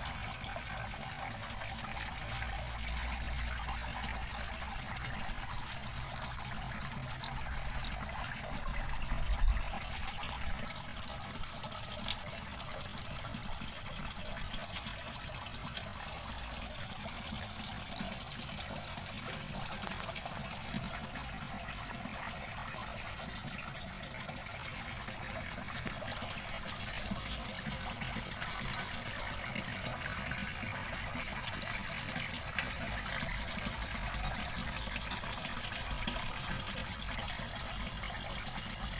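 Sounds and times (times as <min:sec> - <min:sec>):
water trickling through pipes: 0:00.0 - 0:38.9.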